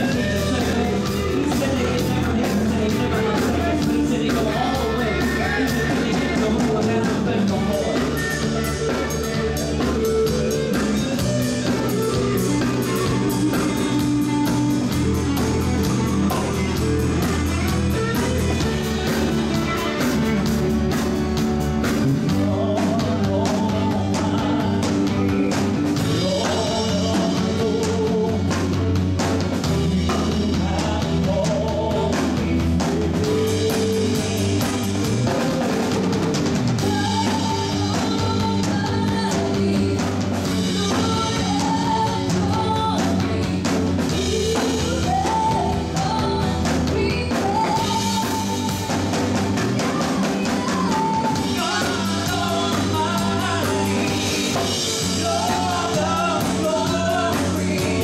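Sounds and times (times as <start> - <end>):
drums steady beat: 0.0 - 58.0
gospel band playing live: 0.0 - 58.0
person singing: 0.0 - 58.0.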